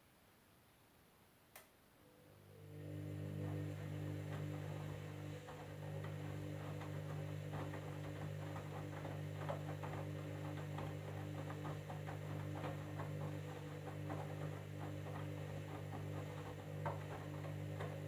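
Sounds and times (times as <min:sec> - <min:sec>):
washing machine motor hum: 0:02.1 - 0:18.0.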